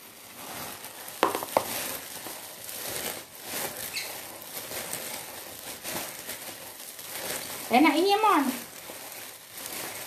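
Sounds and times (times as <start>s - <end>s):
plastic glove crinkling: 0.0s - 10.0s
hand kneading rice: 0.2s - 10.0s.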